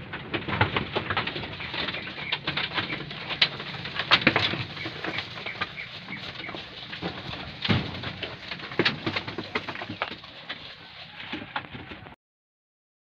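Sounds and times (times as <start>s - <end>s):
goats chewing leaves: 0.0s - 12.2s.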